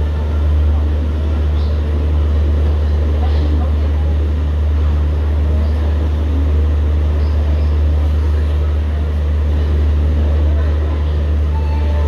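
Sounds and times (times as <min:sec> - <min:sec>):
train coach rumble and hum: 0:00.0 - 0:12.0.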